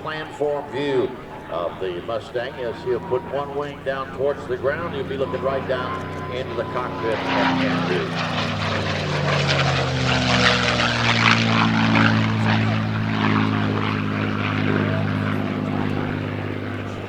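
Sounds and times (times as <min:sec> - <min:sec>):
propeller plane engine flying past: 0:00.0 - 0:17.0.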